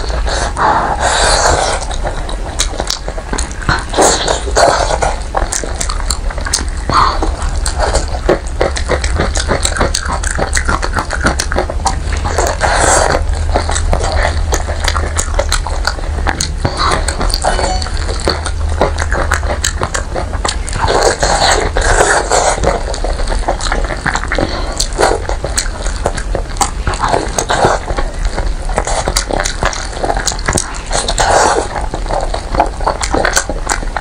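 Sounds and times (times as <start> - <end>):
steady low hum: 0.0 - 34.0
wet chewing and lip smacking: 0.0 - 34.0.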